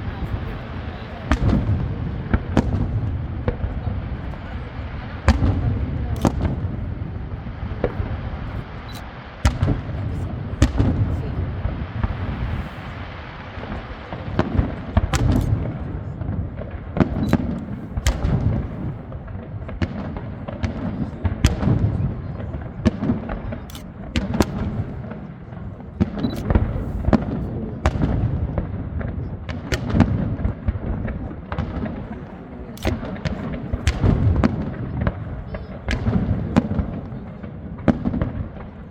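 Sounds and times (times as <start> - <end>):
deep fireworks booms: 0.0 - 38.9
fireworks cracking and popping: 0.0 - 38.9.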